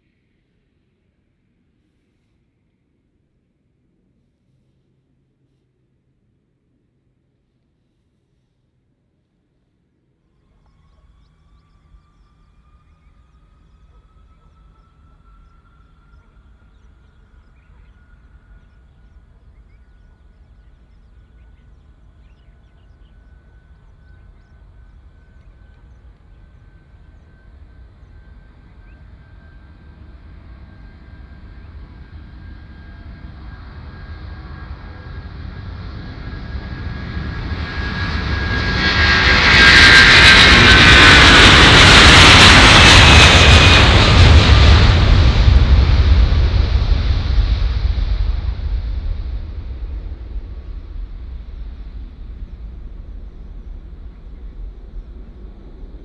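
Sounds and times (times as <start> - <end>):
jet engines roaring on takeoff: 10.6 - 56.0.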